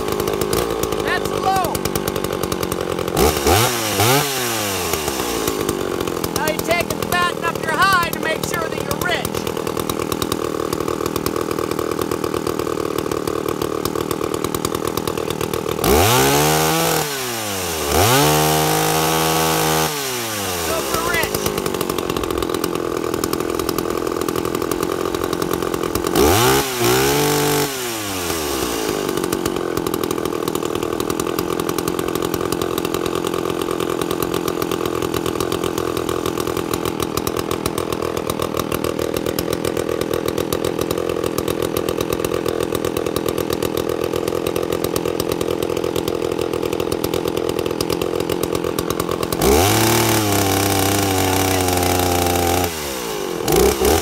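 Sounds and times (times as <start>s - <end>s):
chainsaw engine idling and revving: 0.0s - 54.0s.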